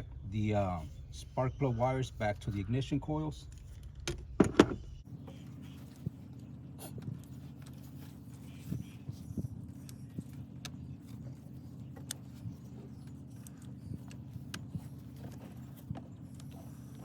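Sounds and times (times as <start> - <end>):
steady low machine hum: 0.0 - 17.0.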